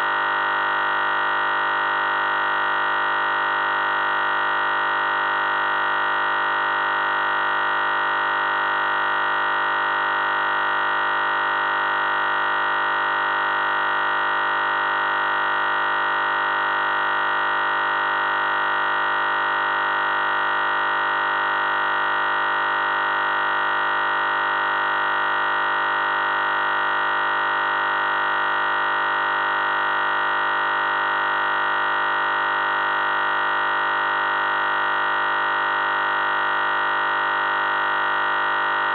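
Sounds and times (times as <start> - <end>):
steady buzzing electronic tone: 0.0 - 38.9.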